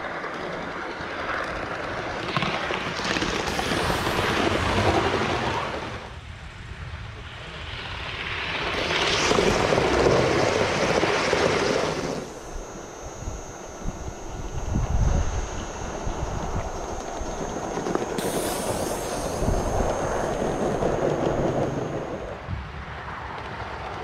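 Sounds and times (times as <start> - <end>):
model train wheels on rail: 0.0 - 5.3, 8.2 - 22.4.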